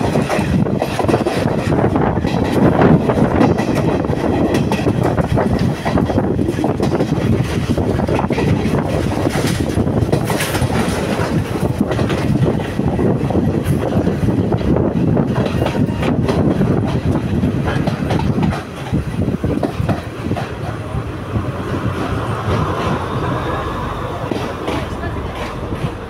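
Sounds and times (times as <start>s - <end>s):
wheels clicking over rail joints: 0.0s - 23.3s
sharp train clacks: 0.0s - 26.0s
train rumbling: 0.0s - 26.0s.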